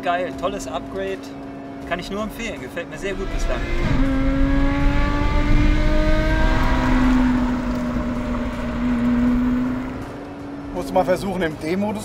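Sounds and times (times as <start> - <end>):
road and wind noise: 0.0 - 12.0
car engine at speed: 0.3 - 10.9.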